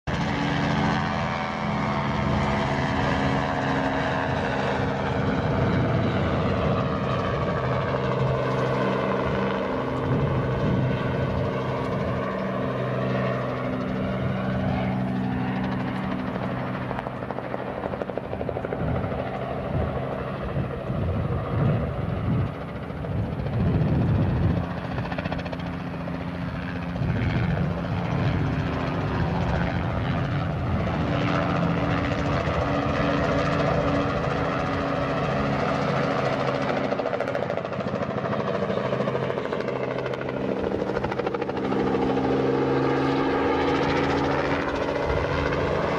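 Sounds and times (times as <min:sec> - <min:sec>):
helicopter rotor beat: 0:00.0 - 0:45.9.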